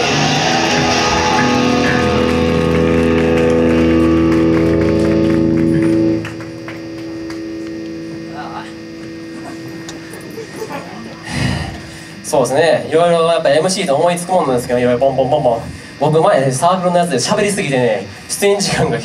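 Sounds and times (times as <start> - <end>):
amplifier hum: 0.0 - 19.0
rock band sustained chord: 0.0 - 19.0.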